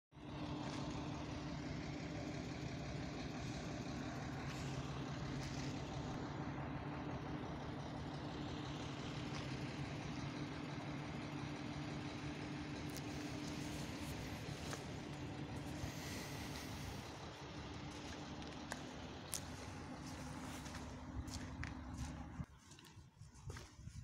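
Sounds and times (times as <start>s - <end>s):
street noise: 0.2s - 23.8s
low mechanical hum: 0.2s - 24.0s.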